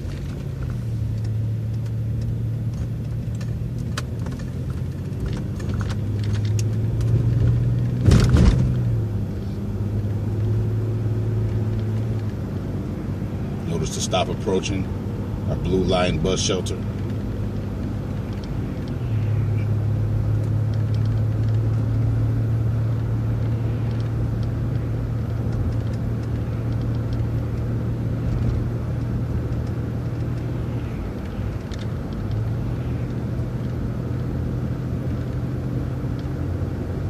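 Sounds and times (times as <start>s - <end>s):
road noise: 0.0s - 37.0s
vehicle engine drone: 0.0s - 37.0s.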